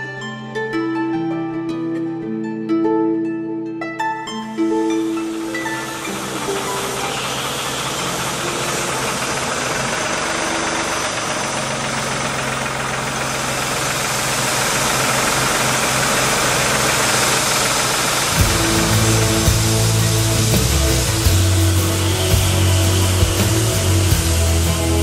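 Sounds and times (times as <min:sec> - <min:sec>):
crane engine humming: 0:04.5 - 0:25.0.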